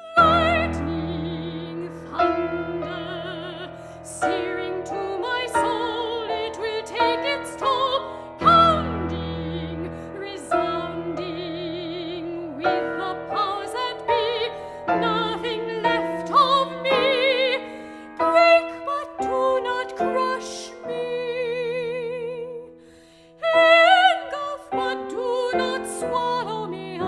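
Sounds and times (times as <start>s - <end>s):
soprano singing with vibrato: 0.0s - 22.8s, 23.4s - 27.0s
piano chords: 0.0s - 27.0s.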